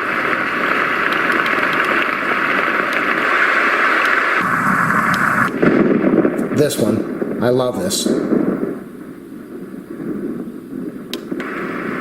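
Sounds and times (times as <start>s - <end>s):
recorded rain hiss: 0.0s - 12.0s.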